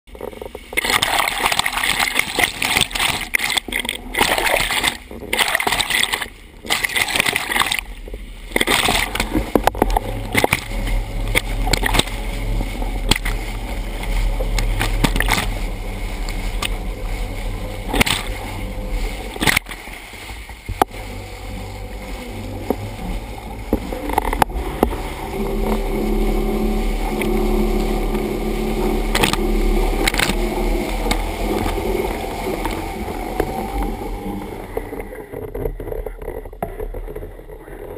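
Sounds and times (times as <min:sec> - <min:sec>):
boat engine humming: 0:00.0 - 0:37.9
water rushing and splashing: 0:00.1 - 0:37.9.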